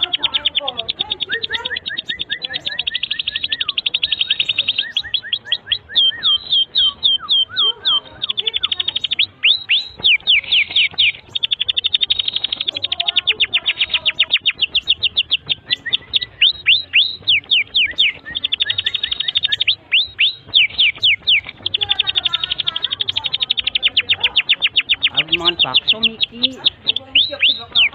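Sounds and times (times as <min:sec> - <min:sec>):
canary singing with trills: 0:00.0 - 0:27.9.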